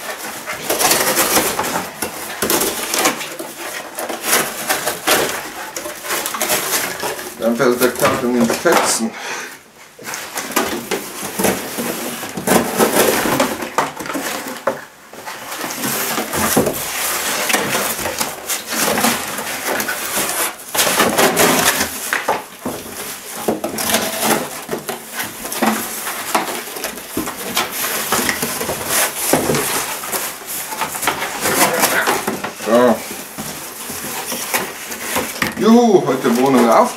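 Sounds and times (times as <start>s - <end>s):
knife cutting cardboard: 0.0s - 8.8s, 10.0s - 36.9s
cardboard scraping and rustling: 0.0s - 9.1s, 9.8s - 36.9s.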